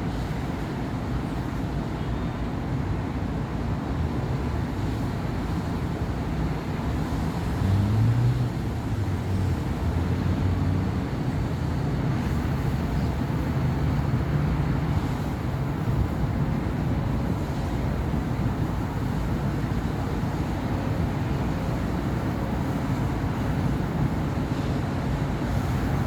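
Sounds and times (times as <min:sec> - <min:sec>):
road traffic rumble: 0:02.6 - 0:26.0.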